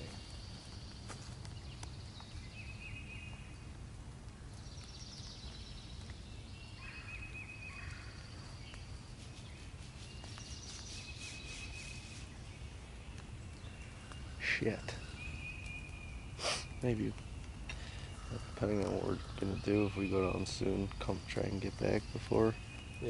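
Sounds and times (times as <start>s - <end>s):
songbirds singing: 0.0s - 23.0s.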